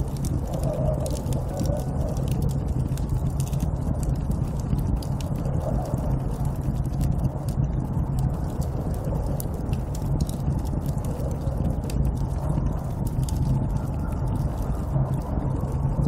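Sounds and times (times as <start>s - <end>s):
sharp crackles: 0.0s - 16.0s
snowstorm wind rumbling: 0.0s - 16.0s.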